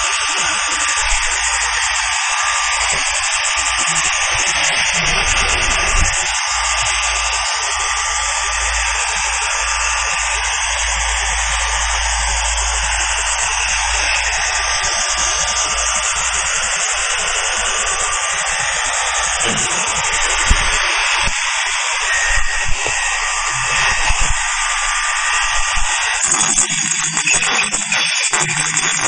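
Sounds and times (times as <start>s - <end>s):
machine hissing over low hum: 0.0s - 26.4s.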